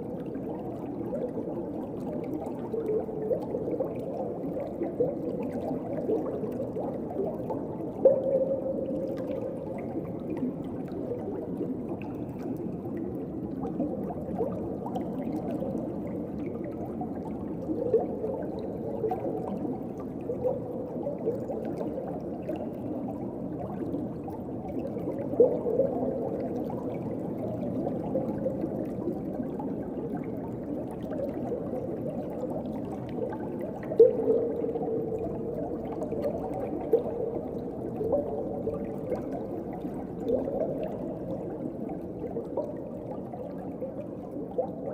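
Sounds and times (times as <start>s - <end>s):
muffled underwater rush and gurgling: 0.0s - 44.9s.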